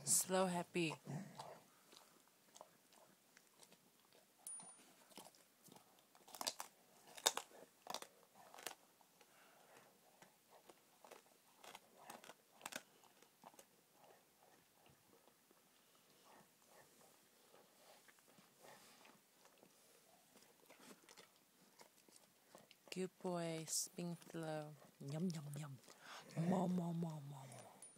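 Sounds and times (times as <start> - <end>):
dog crunching bones: 1.0 - 26.3.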